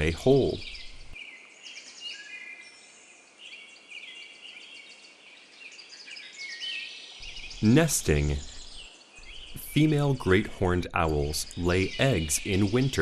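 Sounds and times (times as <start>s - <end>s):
birds chirping and trilling: 0.0s - 13.0s
whistled bird notes: 0.0s - 13.0s.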